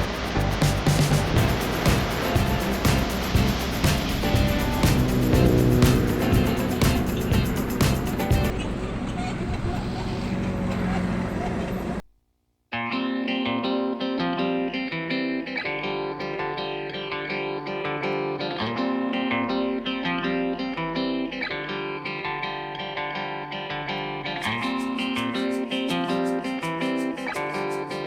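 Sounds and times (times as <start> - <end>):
plucked guitar melody: 0.0 - 8.6, 12.7 - 28.0.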